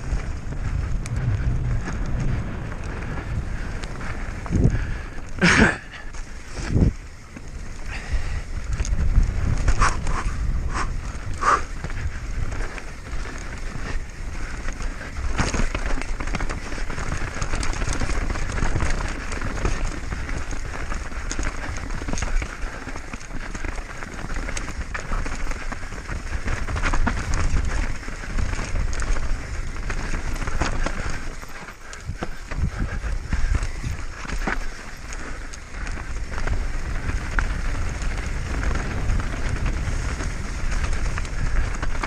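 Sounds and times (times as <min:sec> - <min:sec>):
bike clicking and rattling: 0:00.0 - 0:42.0
tyres rushing on dirt and stones: 0:00.0 - 0:42.0.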